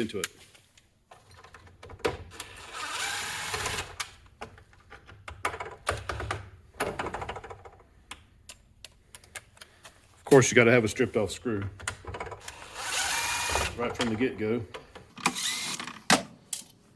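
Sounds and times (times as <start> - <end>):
tools and parts clicking and scraping: 0.1 - 10.4, 11.6 - 16.9.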